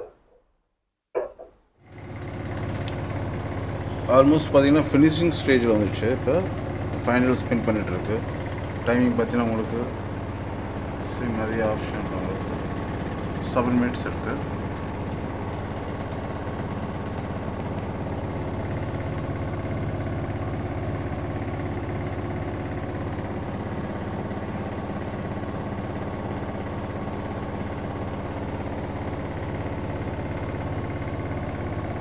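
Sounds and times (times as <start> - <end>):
washing machine spinning: 1.8 - 32.0.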